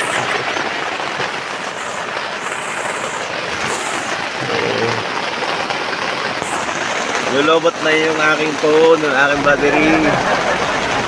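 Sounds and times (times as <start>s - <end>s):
heavy rain on a tent: 0.0s - 11.0s.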